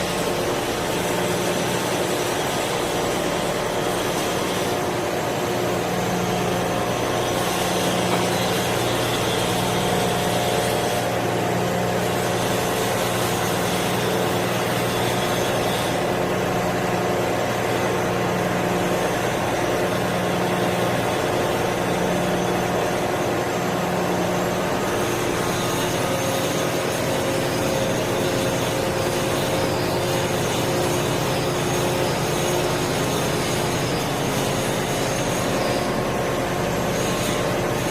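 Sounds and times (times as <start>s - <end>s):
heavy machinery drone: 0.0s - 17.0s, 18.6s - 37.9s.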